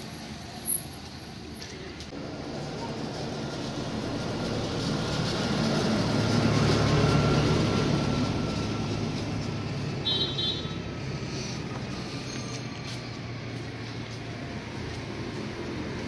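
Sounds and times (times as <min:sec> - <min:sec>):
vehicle engine rumble passing: 0:00.0 - 0:16.0.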